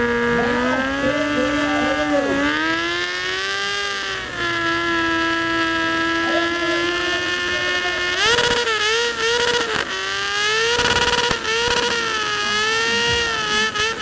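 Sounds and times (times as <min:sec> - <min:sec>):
small engine at high revs: 0:00.0 - 0:14.0.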